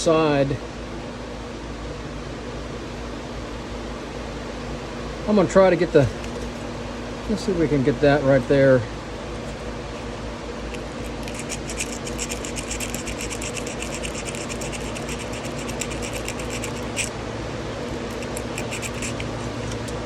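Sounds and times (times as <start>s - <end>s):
steady fan hum: 0.0s - 20.0s.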